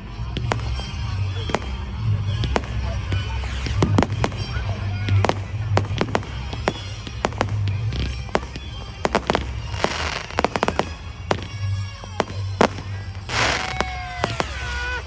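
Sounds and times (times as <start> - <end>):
fireworks bangs and cracks: 0.0 - 15.0
fireworks fizzing hiss: 0.0 - 15.0.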